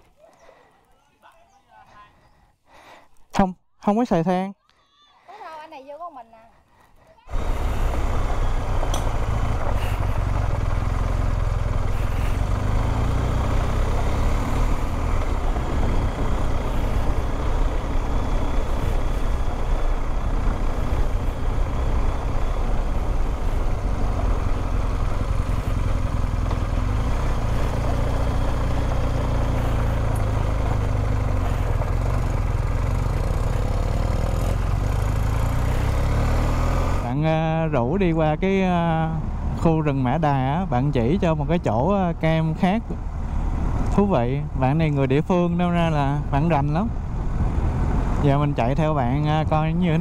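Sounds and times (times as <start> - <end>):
motorcycle engine running: 7.2 - 50.0.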